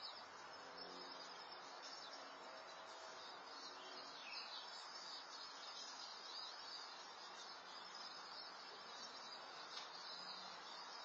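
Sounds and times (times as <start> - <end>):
small birds chirping: 0.0 - 11.0
steady microphone hiss: 0.0 - 11.0.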